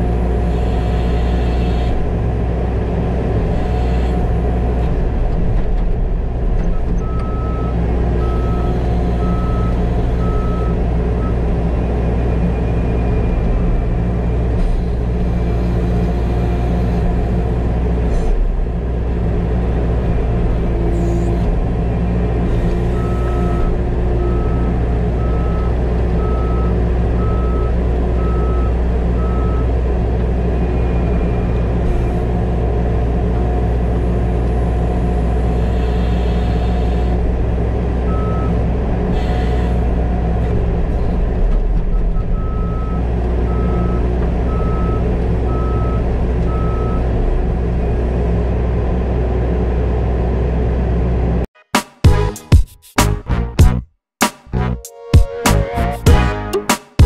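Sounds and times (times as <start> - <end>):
diesel engine running: 0.0 - 51.5.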